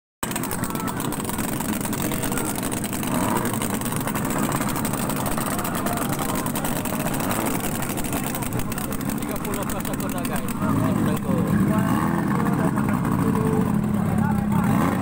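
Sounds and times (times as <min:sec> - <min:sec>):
speedboat engines running: 0:00.2 - 0:15.0.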